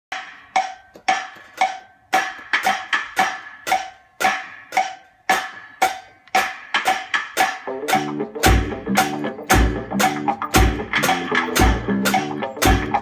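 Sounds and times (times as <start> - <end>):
drum kit hits with sticks: 0.1 - 13.0.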